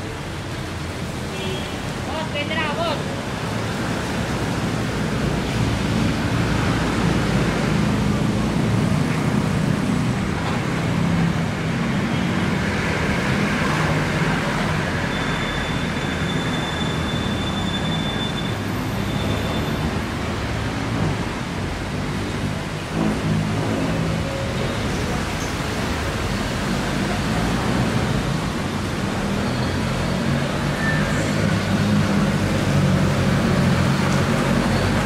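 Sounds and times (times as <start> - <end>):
tyres hissing on wet road: 0.0 - 35.0.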